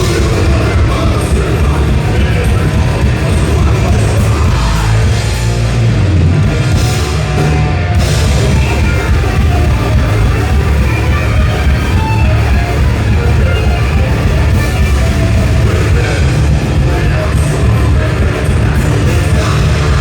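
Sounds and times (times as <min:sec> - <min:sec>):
bass guitar: 0:00.0 - 0:20.0
distorted electric guitars: 0:00.0 - 0:20.0
drum kit: 0:00.0 - 0:20.0.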